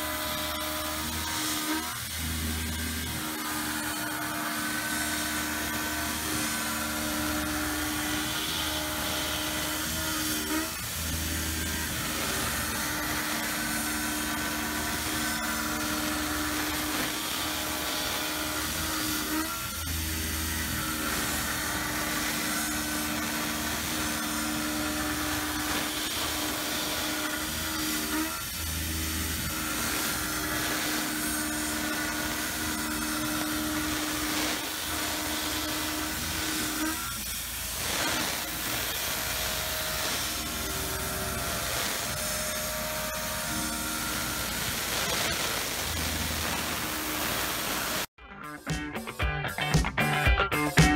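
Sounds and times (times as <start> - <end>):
milling machine cutting steel: 0.0 - 48.1.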